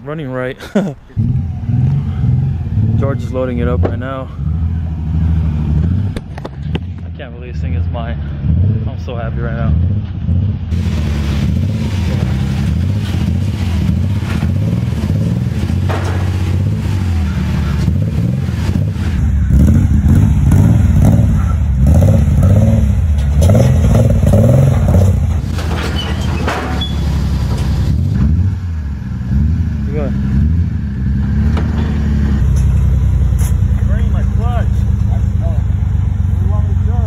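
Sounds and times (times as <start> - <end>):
car engine revving lightly: 1.0 - 37.0.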